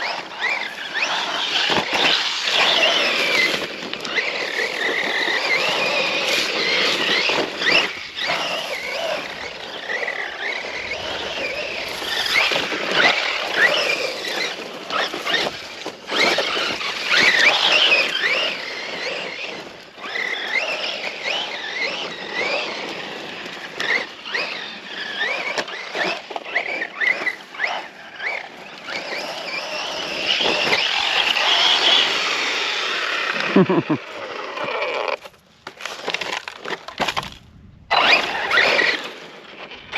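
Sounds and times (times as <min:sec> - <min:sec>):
electric motor whining: 0:00.0 - 0:35.3, 0:37.1 - 0:39.9.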